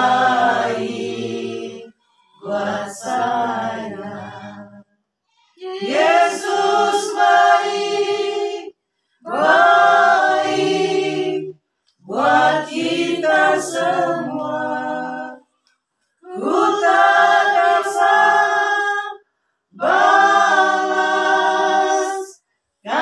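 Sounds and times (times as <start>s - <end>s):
choir singing a hymn a cappella: 0.0s - 4.9s, 5.6s - 15.5s, 16.2s - 23.0s.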